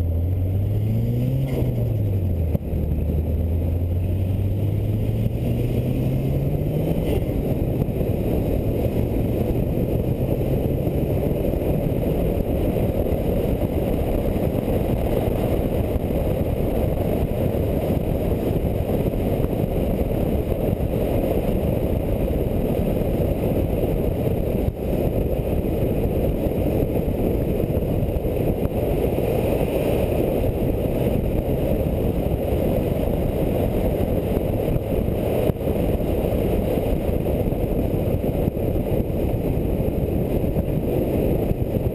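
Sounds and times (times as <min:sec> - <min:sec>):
wind and road noise rumble: 0:00.0 - 0:41.9.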